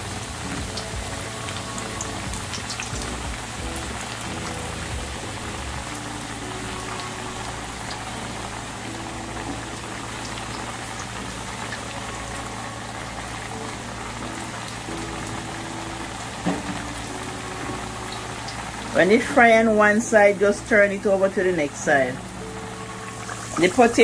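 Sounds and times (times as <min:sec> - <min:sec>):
food deep-frying in hot oil: 0:00.0 - 0:24.0.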